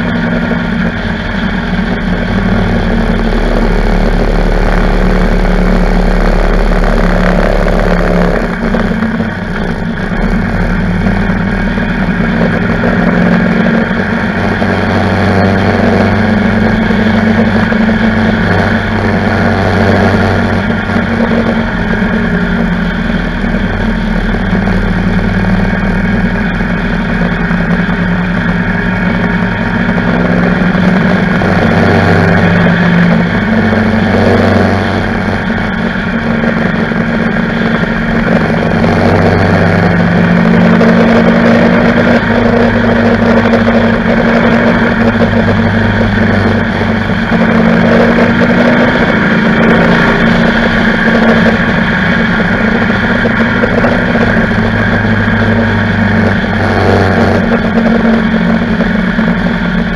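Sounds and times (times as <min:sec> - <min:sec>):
motorcycle engine revving: 0:00.0 - 0:59.9
wind and road noise: 0:00.0 - 0:59.9.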